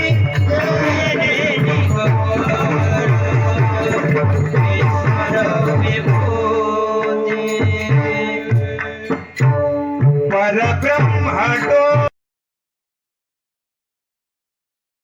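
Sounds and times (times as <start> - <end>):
held instrument notes: 0.0 - 12.1
rapid hand-drum strokes: 0.0 - 12.1.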